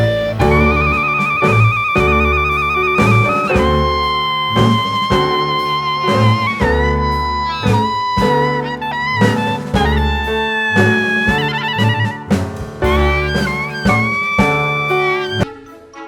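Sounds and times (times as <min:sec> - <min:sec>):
instrumental music with steady beat: 0:00.0 - 0:15.6.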